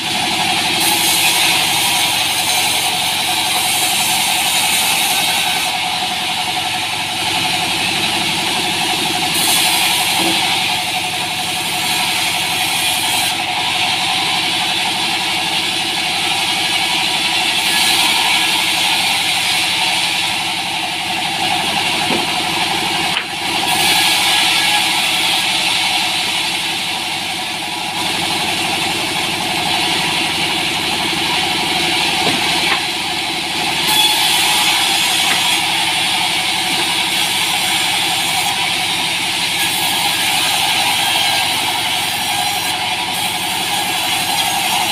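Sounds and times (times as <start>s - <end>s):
band saw ripping timber: 0.1s - 13.4s, 17.4s - 44.9s.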